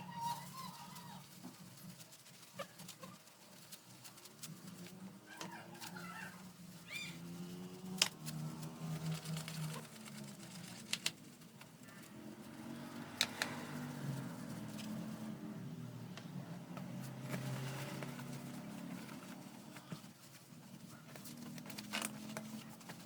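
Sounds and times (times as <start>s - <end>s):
rubbing and handling sounds: 0.0s - 23.0s.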